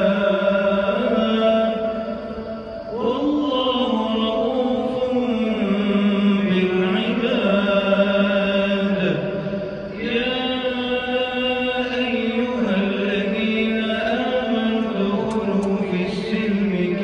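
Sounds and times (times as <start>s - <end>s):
man chanting recitation with echo: 0.0s - 2.2s, 2.9s - 17.0s.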